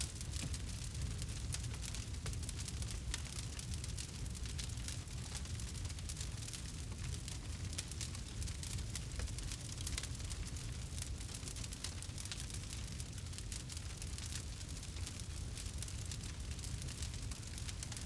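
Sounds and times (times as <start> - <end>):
low rumble of burning fire: 0.0 - 18.0
campfire crackling: 0.1 - 18.0.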